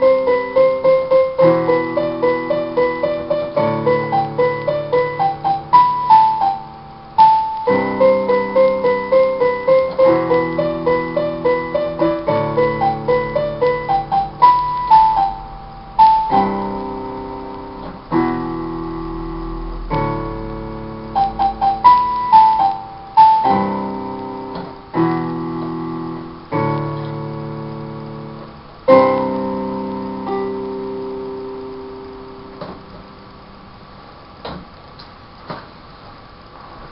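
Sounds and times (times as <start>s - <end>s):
electronic keyboard piano melody: 0.0s - 33.9s.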